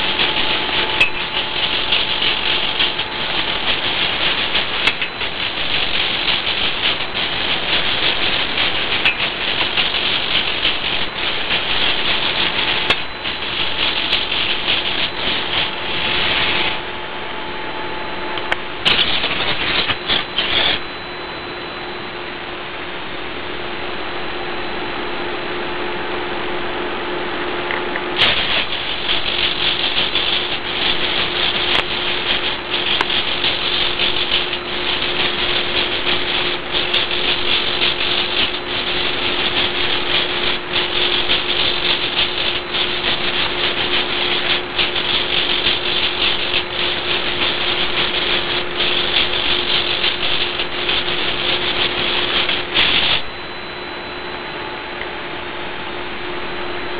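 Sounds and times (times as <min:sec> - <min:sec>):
steady hum: 0:00.0 - 0:56.9.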